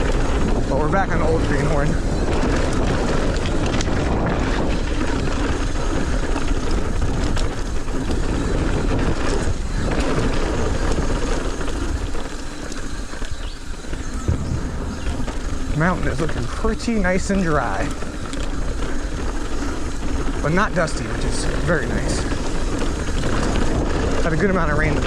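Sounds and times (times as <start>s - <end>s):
bike rattling over bumps: 0.0s - 25.0s
wind and tyre rush: 0.0s - 25.0s.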